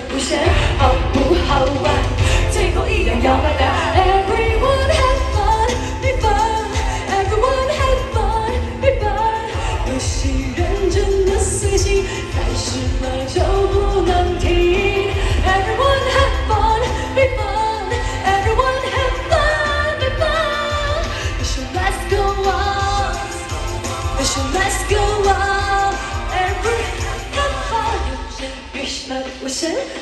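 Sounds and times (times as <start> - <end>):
steady bass line: 0.0 - 28.4
live pop band: 0.0 - 30.0
person singing: 0.0 - 30.0.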